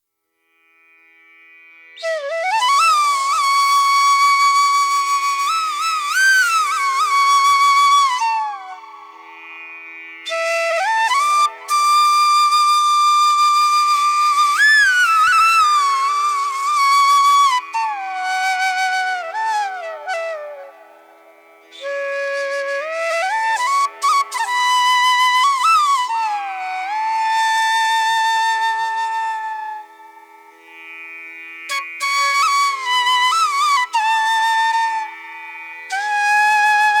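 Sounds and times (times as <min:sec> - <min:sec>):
slow flute melody: 0:02.0 - 0:09.5, 0:10.2 - 0:30.5, 0:31.7 - 0:37.0.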